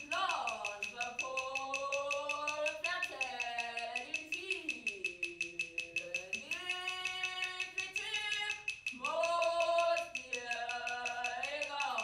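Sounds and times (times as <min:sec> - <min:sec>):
fast ticking pulse: 0:00.0 - 0:12.0
woman singing long notes: 0:00.0 - 0:12.0.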